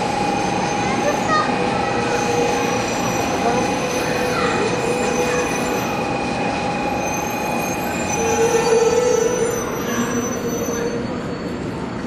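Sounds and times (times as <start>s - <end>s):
steady train whine: 0.0s - 12.0s
train rolling to a stop: 0.0s - 12.0s.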